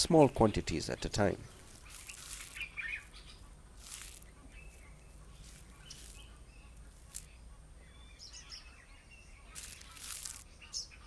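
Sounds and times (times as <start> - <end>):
leaves and branches rustling: 0.0 - 7.8, 9.4 - 10.6
small bird chirps: 0.5 - 11.0.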